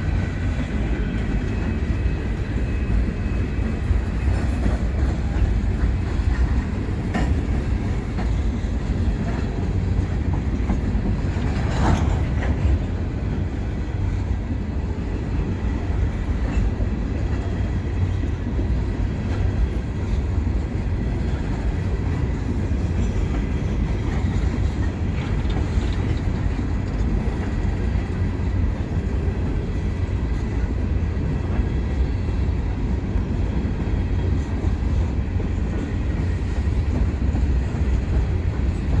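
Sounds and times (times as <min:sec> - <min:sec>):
train cars rumbling past: 0:00.0 - 0:39.0
train wheel clacks: 0:00.0 - 0:39.0.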